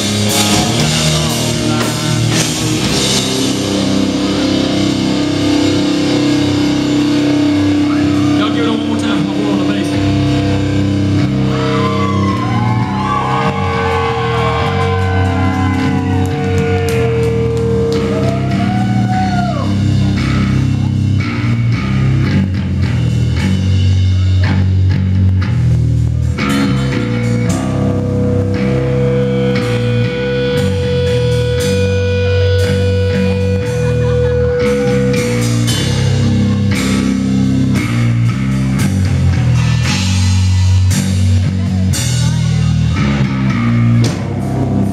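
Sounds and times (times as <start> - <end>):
heavy metal band playing live: 0.0 - 44.9
lead guitar bending notes: 0.0 - 44.9.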